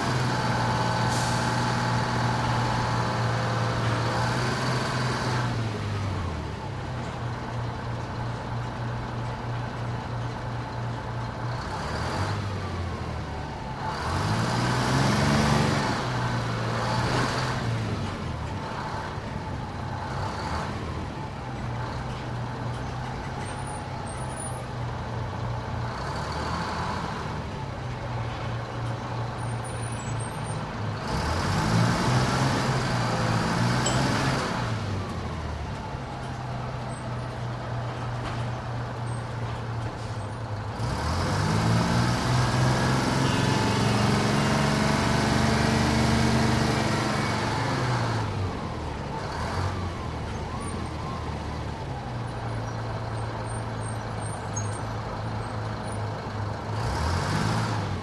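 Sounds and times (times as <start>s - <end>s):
bus engine idling and revving: 0.0s - 58.0s.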